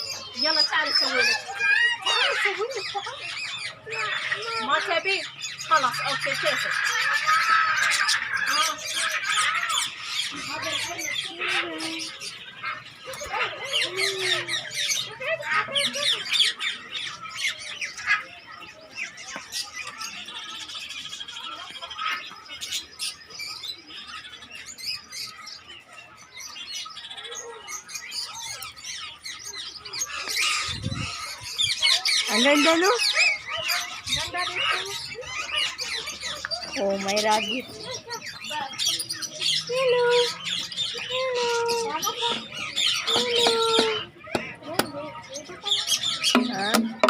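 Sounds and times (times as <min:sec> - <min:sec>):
birds chirping and squawking: 0:00.0 - 0:47.0.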